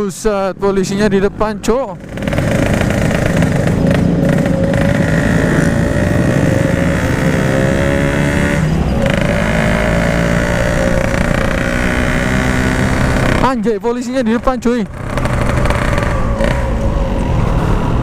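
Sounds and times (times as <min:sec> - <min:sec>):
motorcycle engine running: 0:01.9 - 0:18.0.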